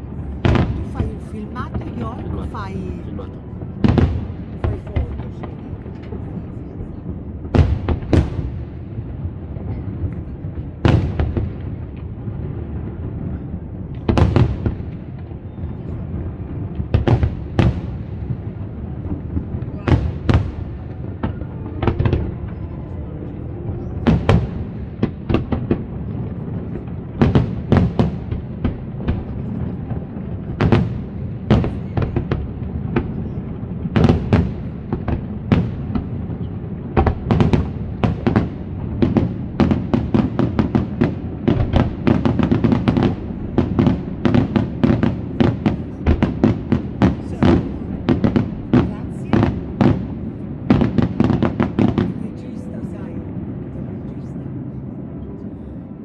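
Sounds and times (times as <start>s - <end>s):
firework bangs: 0.0s - 54.1s.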